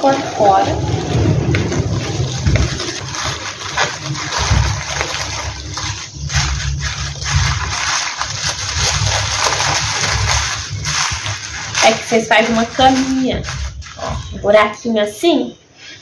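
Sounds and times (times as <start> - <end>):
wind rumble on microphone: 0.0 - 14.5
tissue paper crinkling: 0.0 - 15.9.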